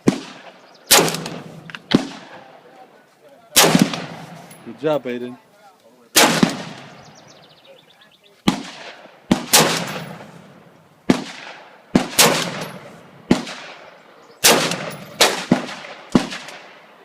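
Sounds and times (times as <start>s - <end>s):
rifle shots echoing: 0.0s - 2.8s, 3.5s - 4.9s, 6.1s - 7.4s, 8.4s - 17.0s.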